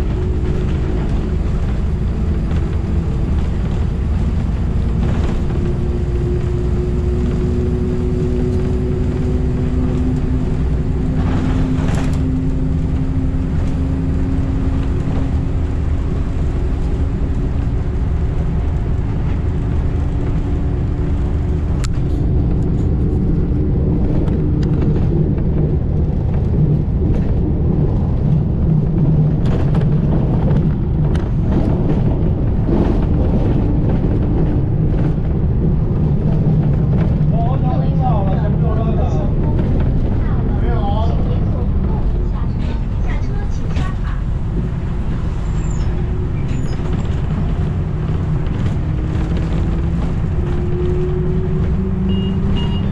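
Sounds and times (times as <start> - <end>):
bus engine and tyres rumbling: 0.0 - 52.9.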